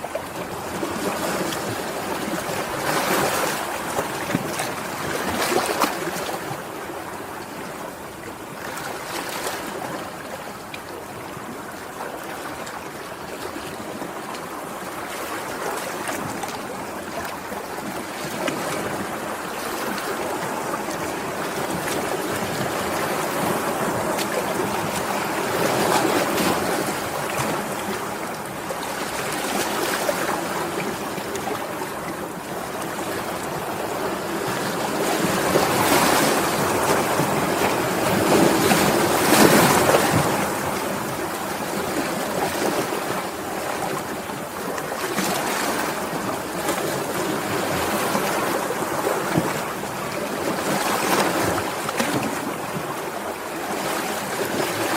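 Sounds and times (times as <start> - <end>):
sea waves breaking: 0.0 - 54.9.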